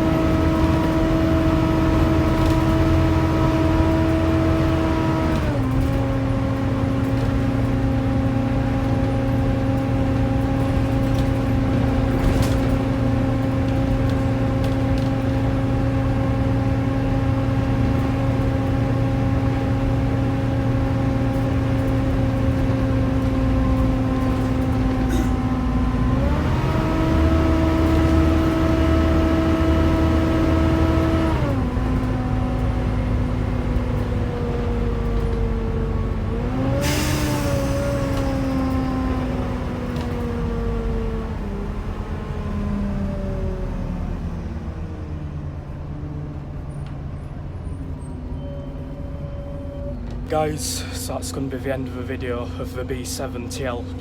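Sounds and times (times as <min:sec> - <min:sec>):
bus engine whining: 0:00.0 - 0:54.0.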